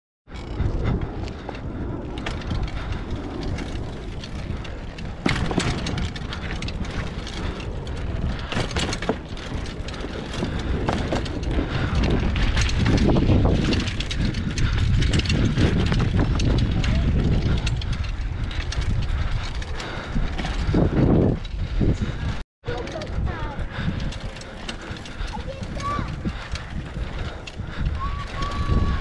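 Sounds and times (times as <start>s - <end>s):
bike rattling: 0.3s - 29.0s
bike tyres clattering over wood and stones: 0.3s - 29.0s
wind rumble on microphone: 0.3s - 29.0s.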